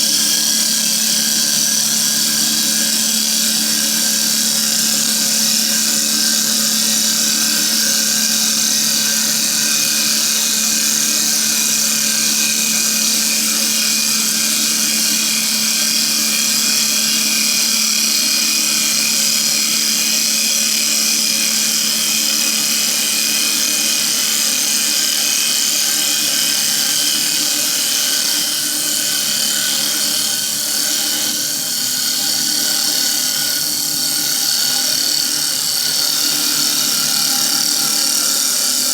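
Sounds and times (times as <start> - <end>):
lathe motor tone: 0.0 - 38.9.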